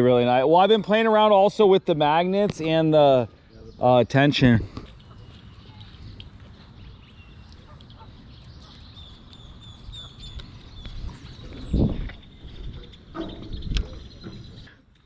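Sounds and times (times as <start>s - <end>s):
birds peeping: 1.6s - 15.0s.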